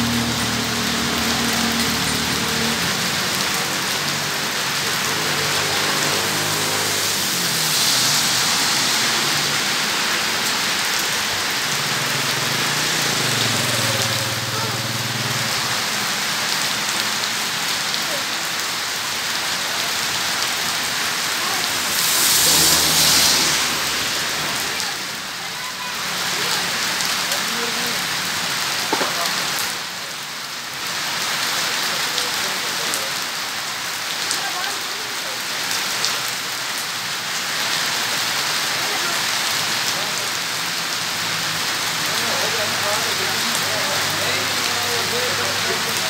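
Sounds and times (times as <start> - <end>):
rain falling on wet road: 0.0 - 46.0
vehicles passing on wet road: 0.0 - 46.0.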